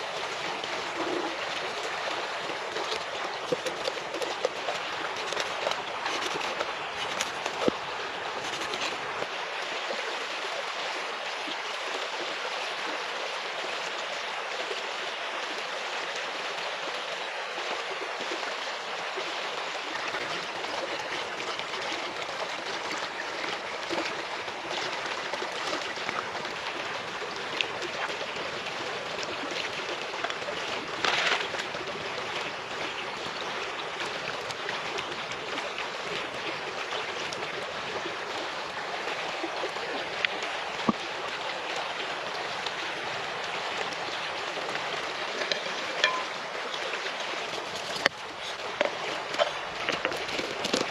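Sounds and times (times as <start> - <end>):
stream babbling over stones: 0.0 - 50.9.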